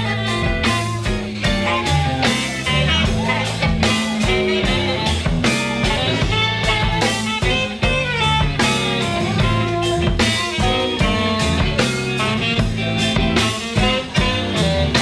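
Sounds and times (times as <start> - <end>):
live rock band playing: 0.0 - 15.0
steady drum beat: 0.0 - 15.0.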